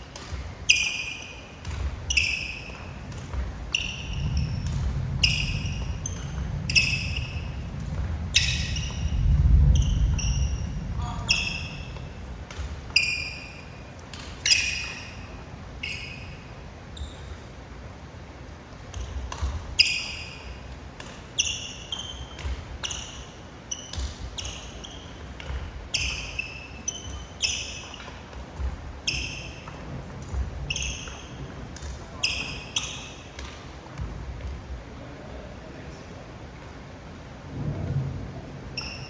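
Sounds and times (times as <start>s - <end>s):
court shoes squeaking on floor: 0.0s - 34.8s, 35.7s - 39.0s.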